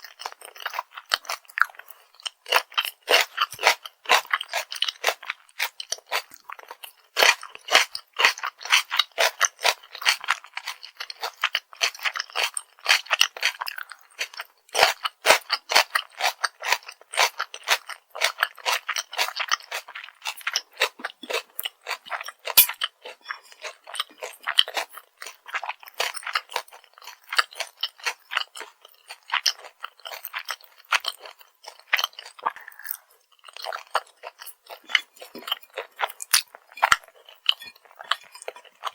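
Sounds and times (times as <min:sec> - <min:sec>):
crunchy chewing of fried food: 0:00.0 - 0:38.9.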